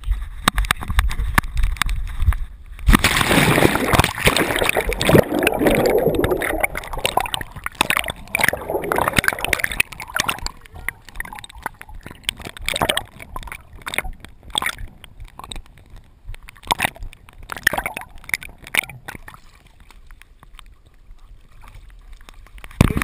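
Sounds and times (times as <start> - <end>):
water sloshing and splashing: 0.2 - 23.0.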